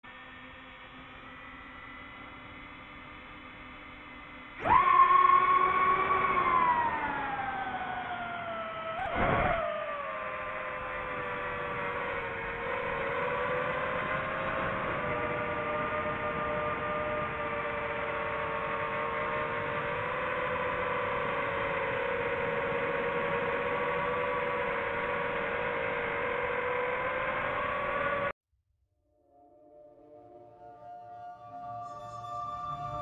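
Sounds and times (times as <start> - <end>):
drone propellers humming: 0.6 - 28.3.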